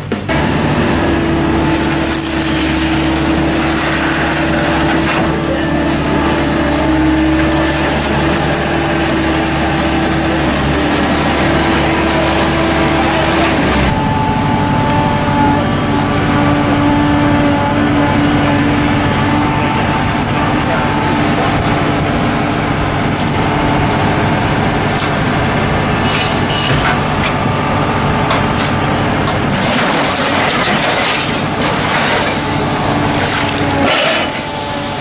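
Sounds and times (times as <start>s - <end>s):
heavy diesel machinery running: 0.0s - 35.0s.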